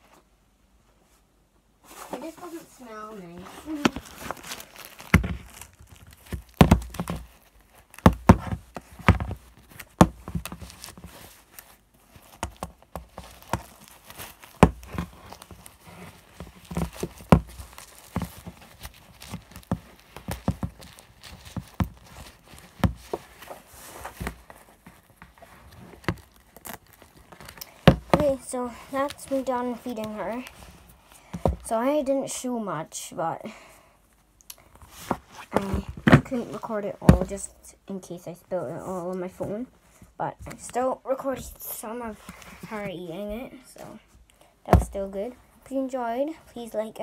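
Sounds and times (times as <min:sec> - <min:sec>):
cloth rustling: 0:01.0 - 0:31.8, 0:34.6 - 0:37.5, 0:38.6 - 0:46.9.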